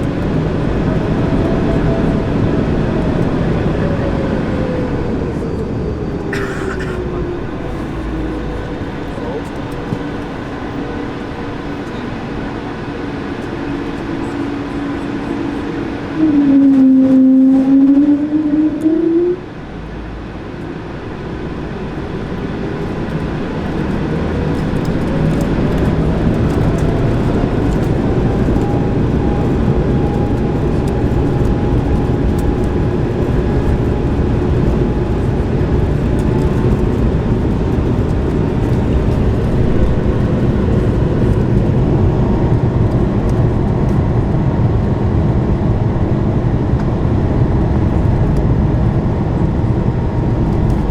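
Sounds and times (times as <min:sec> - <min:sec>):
loud rising whine: 0:00.0 - 0:50.9.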